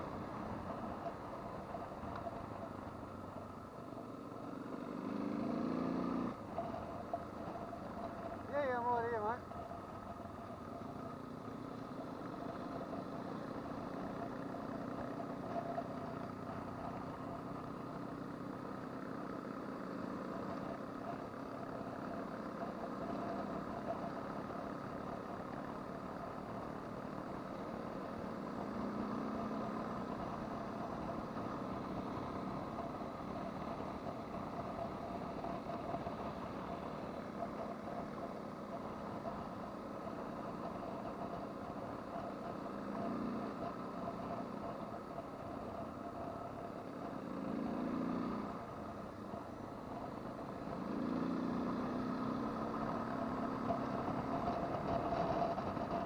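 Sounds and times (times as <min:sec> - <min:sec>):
motorcycle engine running steadily: 0:00.0 - 0:56.0
wind and road noise: 0:00.0 - 0:56.0.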